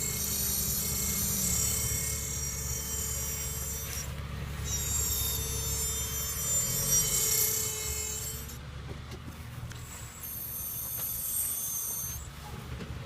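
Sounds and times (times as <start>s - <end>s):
brakes squealing: 0.0s - 8.6s, 9.5s - 12.8s.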